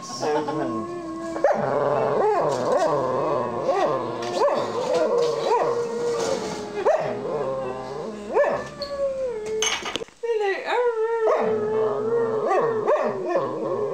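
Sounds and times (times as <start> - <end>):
dog howling: 0.2 - 9.8, 10.7 - 13.9.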